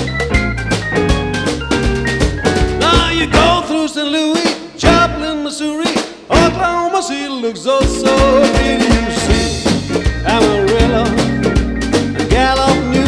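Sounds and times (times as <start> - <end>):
upbeat swing music: 0.0 - 13.0.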